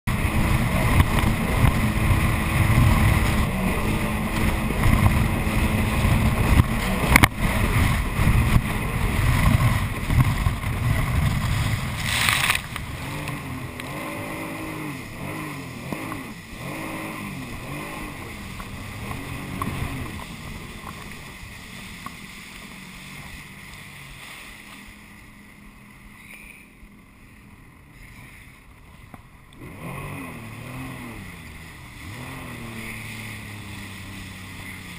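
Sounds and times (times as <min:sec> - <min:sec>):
wind: 0:00.0 - 0:34.9
rushing water: 0:00.1 - 0:26.2, 0:26.8 - 0:34.9
jet ski engine: 0:00.1 - 0:34.9.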